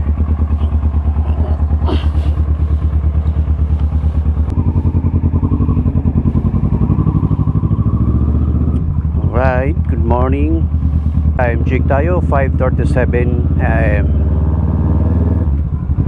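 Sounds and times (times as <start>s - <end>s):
motorcycle engine idling: 0.0s - 16.0s
motorcycle pulling away: 0.0s - 16.0s.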